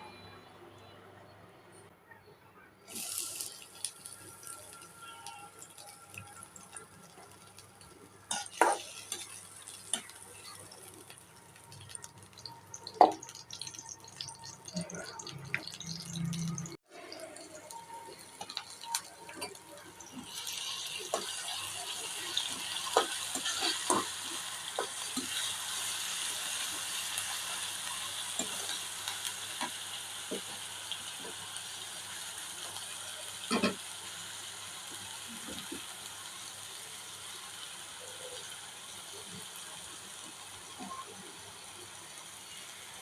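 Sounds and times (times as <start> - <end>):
food sizzling in oil: 2.9 - 43.0.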